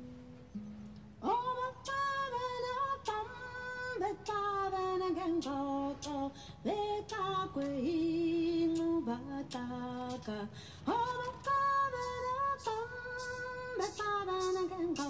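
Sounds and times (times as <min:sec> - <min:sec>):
woman singing slow melody: 0:01.1 - 0:15.0.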